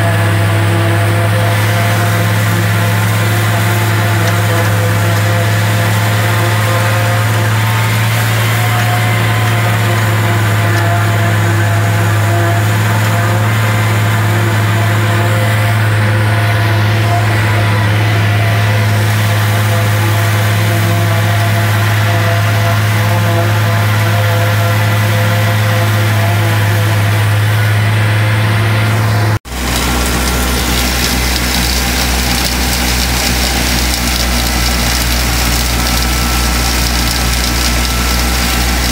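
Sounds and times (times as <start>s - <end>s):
engine running steadily: 0.0s - 38.9s
silo blower running: 0.0s - 38.9s.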